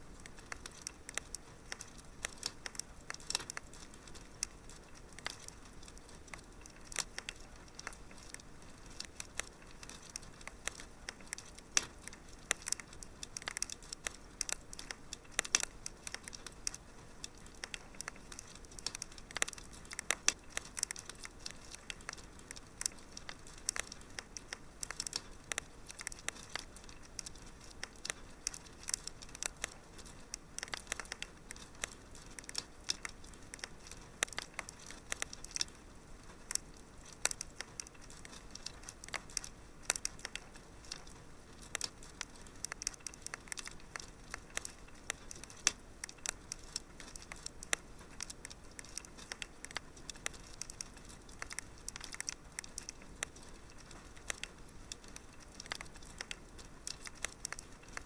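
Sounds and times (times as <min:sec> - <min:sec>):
soft hiss of burning: 0:00.0 - 0:58.0
wood fire crackling: 0:00.0 - 0:58.0.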